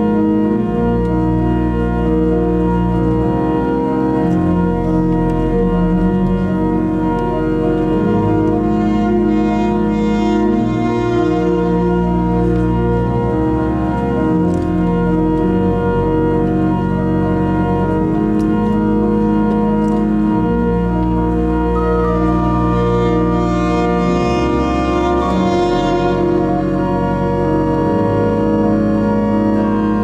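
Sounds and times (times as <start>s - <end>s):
pipe organ playing chords: 0.0s - 30.0s.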